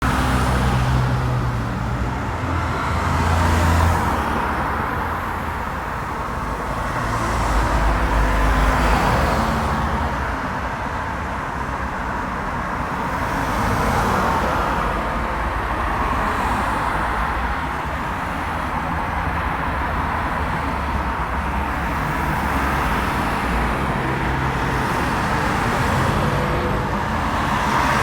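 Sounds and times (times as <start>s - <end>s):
road traffic noise: 0.0s - 28.0s
vehicles passing: 0.0s - 28.0s.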